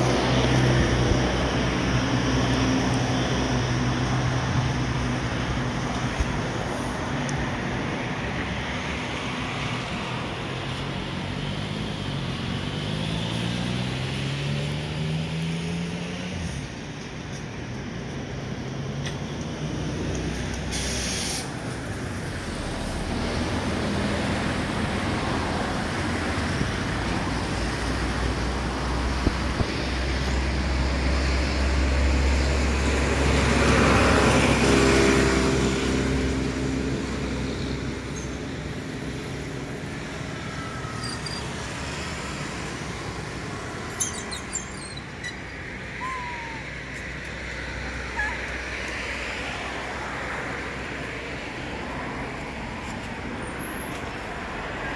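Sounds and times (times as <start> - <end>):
road traffic noise: 0.0 - 54.9.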